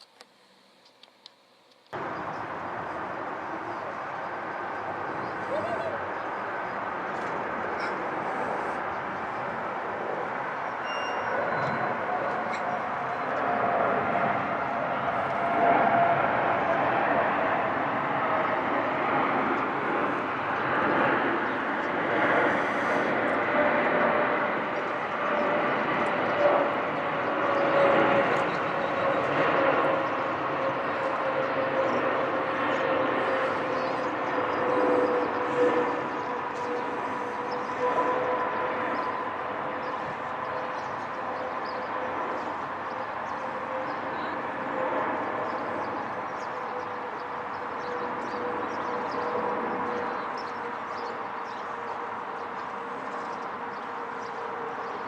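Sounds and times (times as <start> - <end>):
faint jet whine: 0.0 - 55.0
jet airliner roar overhead: 1.9 - 55.0.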